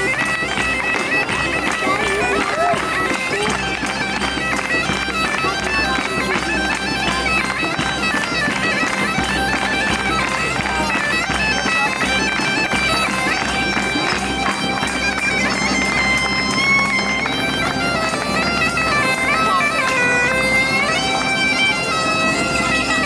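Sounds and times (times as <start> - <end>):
bagpipes playing a melody: 0.0 - 23.0
folk band: 0.0 - 23.0.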